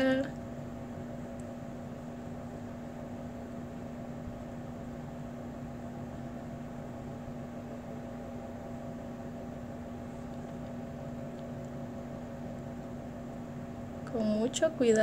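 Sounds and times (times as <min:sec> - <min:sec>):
fan hum and hiss: 0:00.0 - 0:15.0.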